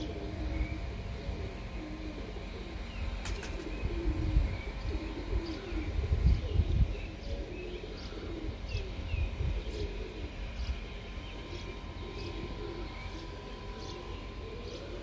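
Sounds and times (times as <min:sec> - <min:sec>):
pigeons cooing: 0:00.0 - 0:15.0
small birds chirping: 0:00.0 - 0:15.0.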